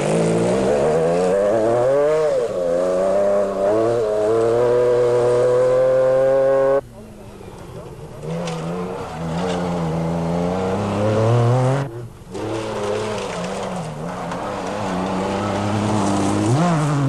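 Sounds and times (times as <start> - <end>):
rally car engine revving: 0.0 - 6.8, 7.8 - 17.0.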